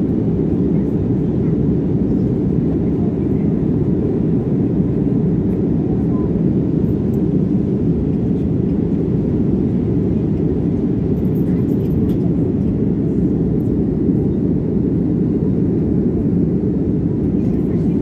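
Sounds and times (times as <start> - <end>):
airliner cabin rumble in flight: 0.0 - 18.0.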